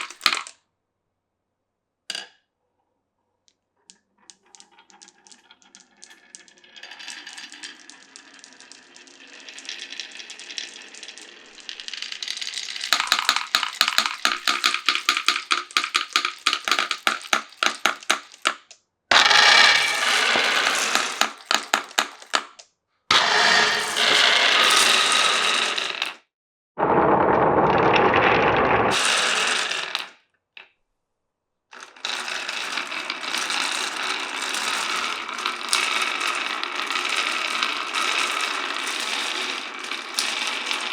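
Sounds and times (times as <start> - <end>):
marbles rolling in wooden run: 0.0 - 0.5, 3.8 - 26.2, 26.8 - 30.2, 31.8 - 40.9.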